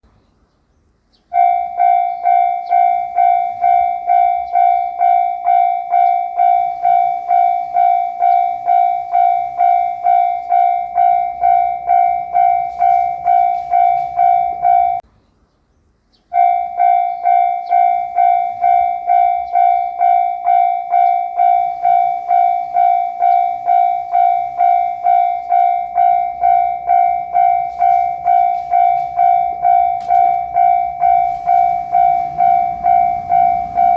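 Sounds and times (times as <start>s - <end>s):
level crossing warning bell: 1.3s - 15.0s, 16.3s - 33.9s.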